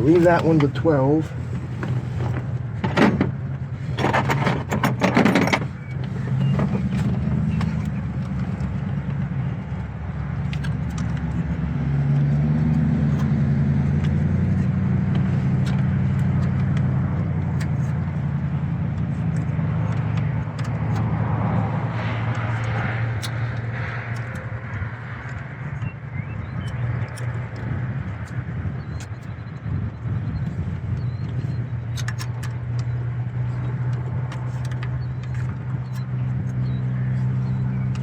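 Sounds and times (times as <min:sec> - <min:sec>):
low engine hum: 0:00.0 - 0:38.0.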